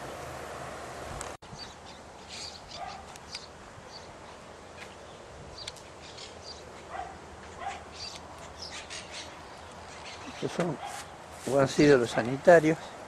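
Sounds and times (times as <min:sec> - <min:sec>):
steady background hiss: 0:00.0 - 0:13.0
small birds chirping: 0:01.4 - 0:13.0.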